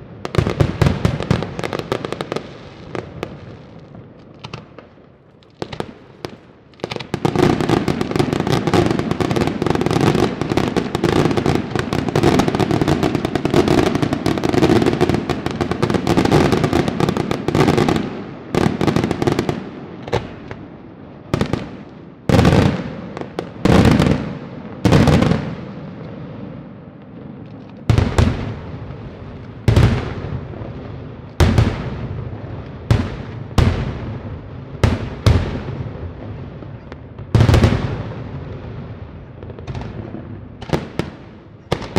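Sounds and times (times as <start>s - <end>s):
fireworks bangs and crackle: 0.0s - 41.9s
loud fireworks booms: 0.0s - 41.9s.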